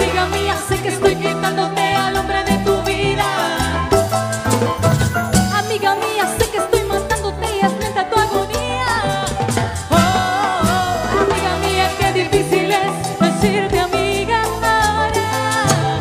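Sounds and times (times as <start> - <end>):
woman singing into microphone: 0.0 - 4.1, 5.4 - 16.0
accordion: 0.0 - 16.0
live cumbia band playing: 0.0 - 16.0.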